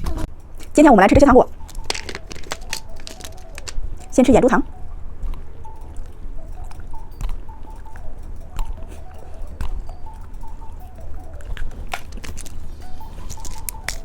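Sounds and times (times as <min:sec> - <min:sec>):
chewing candy: 0:00.6 - 0:04.2, 0:05.2 - 0:14.0.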